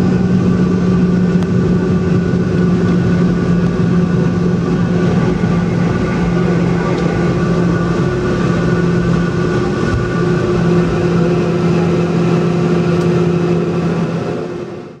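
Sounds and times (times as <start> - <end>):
jet engines humming: 0.0 - 15.0
low cabin rumble: 0.0 - 15.0.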